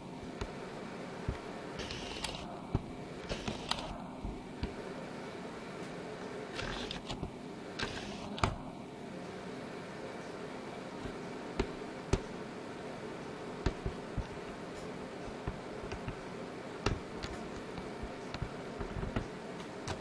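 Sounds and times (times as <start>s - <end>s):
aquarium equipment humming: 0.0s - 20.0s.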